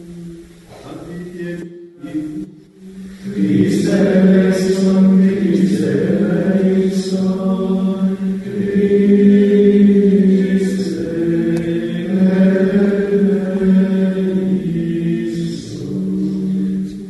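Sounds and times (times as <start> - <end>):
men chanting plainchant: 0.0 - 17.0.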